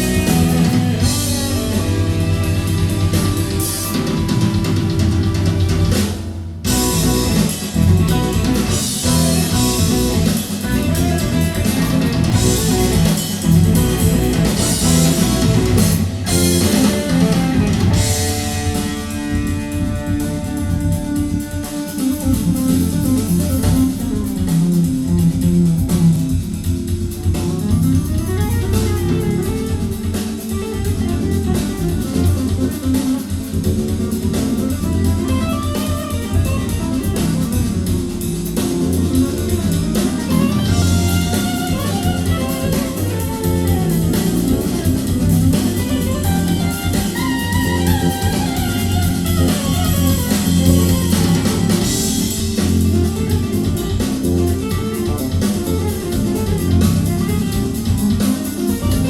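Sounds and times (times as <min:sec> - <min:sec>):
guitar music with bass and drums: 0:00.0 - 0:59.0.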